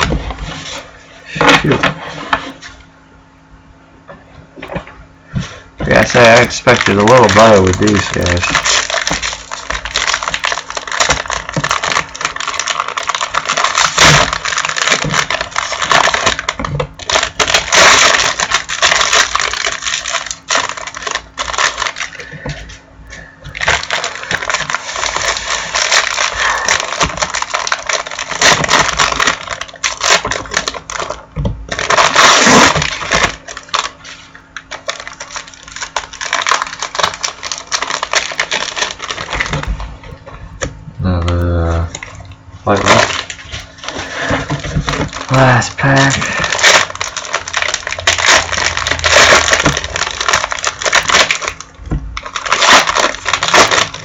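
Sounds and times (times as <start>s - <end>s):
foil wrappers crinkling and tearing: 0.0s - 2.8s, 4.6s - 54.0s.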